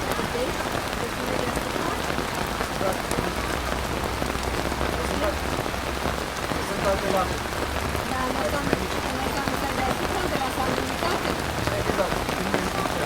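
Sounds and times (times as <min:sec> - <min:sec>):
pouring rain: 0:00.0 - 0:13.0.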